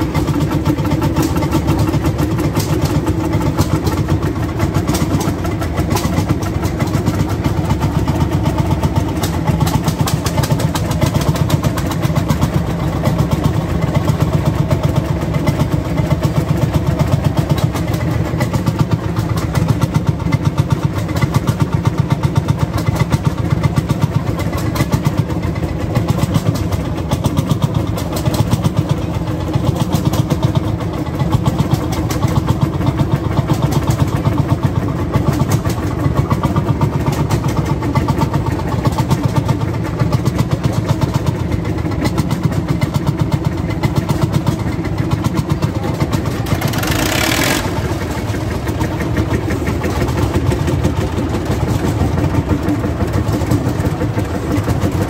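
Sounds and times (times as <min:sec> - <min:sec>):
tractor engine idling thumping: 0:00.0 - 0:55.0.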